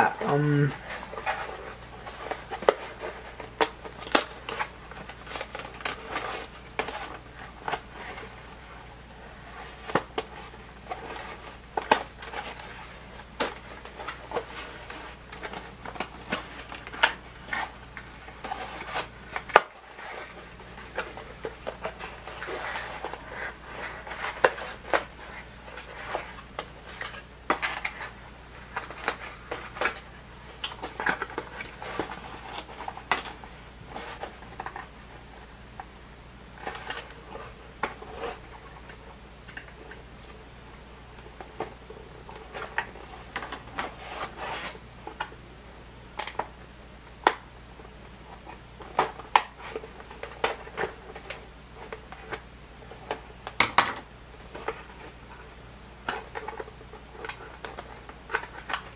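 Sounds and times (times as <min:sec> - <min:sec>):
toy packaging clicks and scrapes: 0:00.0 - 0:35.6, 0:41.0 - 0:45.4, 0:48.2 - 0:58.9.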